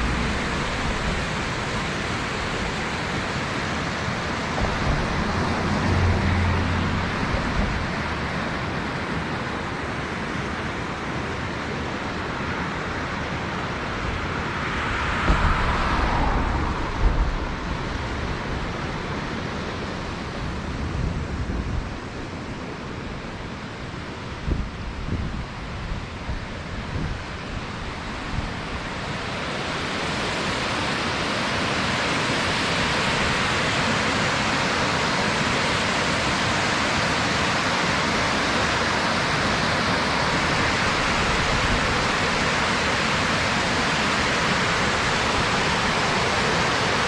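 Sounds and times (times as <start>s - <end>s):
low wind rumble on microphone: 0.0s - 47.0s
water rushing from a cascade: 0.0s - 47.0s.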